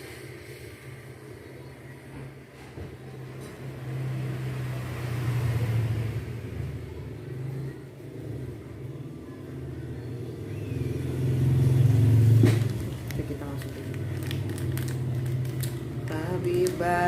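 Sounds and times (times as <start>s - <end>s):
passing vehicle engine rumble: 3.0s - 17.0s.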